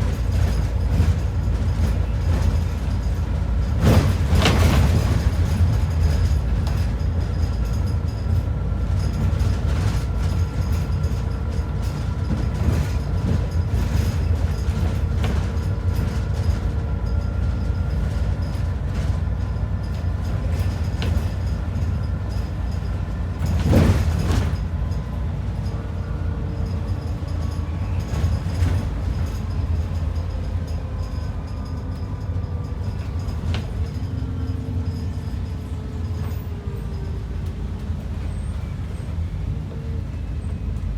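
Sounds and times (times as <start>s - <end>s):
bus engine and road rumble: 0.0s - 40.9s
faint drivetrain whine: 0.0s - 40.9s.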